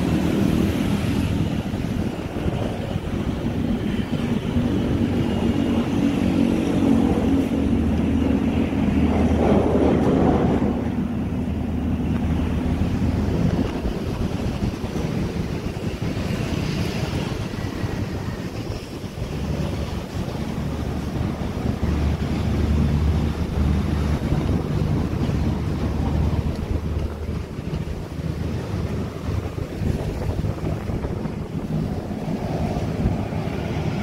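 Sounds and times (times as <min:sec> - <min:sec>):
road traffic rumbling: 0:00.0 - 0:34.0.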